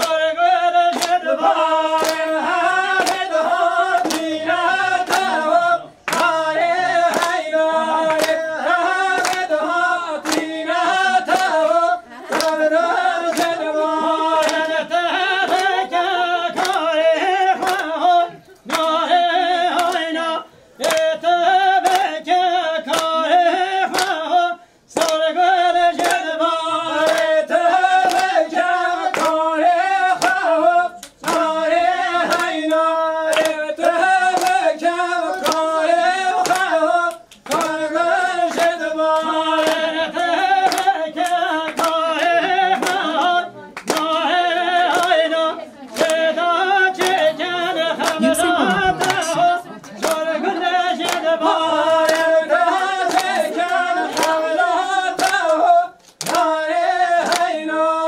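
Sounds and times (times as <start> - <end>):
rhythmic hand clapping: 0.0 - 58.0
voices singing together: 0.0 - 58.0.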